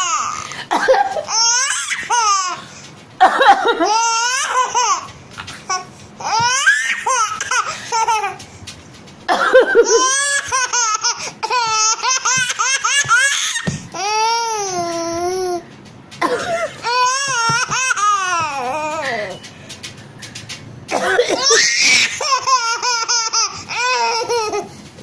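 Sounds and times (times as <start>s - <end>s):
baby laughing: 0.0s - 8.5s, 9.3s - 19.4s, 20.9s - 24.8s.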